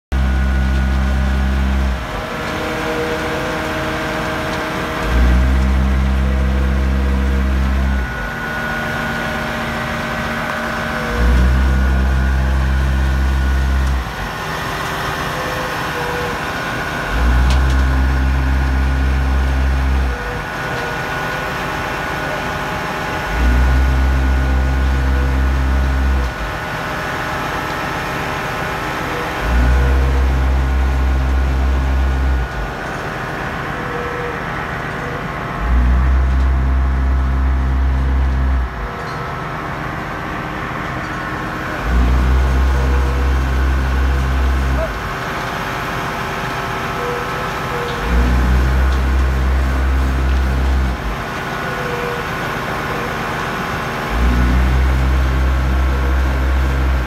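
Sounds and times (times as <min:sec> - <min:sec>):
deep machine hum: 0:00.0 - 0:57.0
concrete mixing machinery running: 0:00.1 - 0:57.0.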